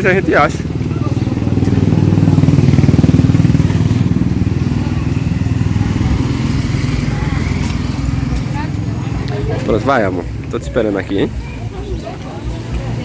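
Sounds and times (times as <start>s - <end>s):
small motorcycle engine idling: 0.0s - 10.5s.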